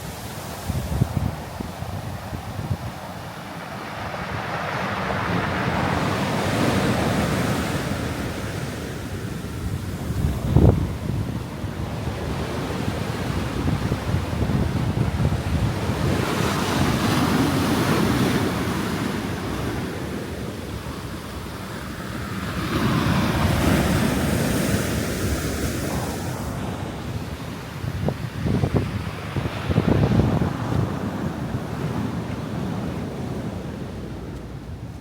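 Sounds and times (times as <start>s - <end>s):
wind buffeting microphone: 0.0s - 21.8s, 22.4s - 35.0s
sea waves washing onto shore: 0.0s - 35.0s.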